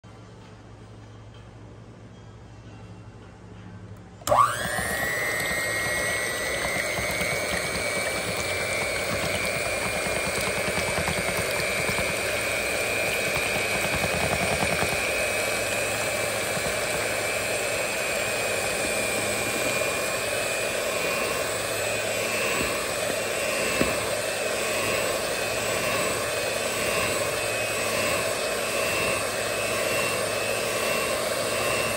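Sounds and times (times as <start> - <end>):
electric hand mixer whirring: 4.2 - 31.9.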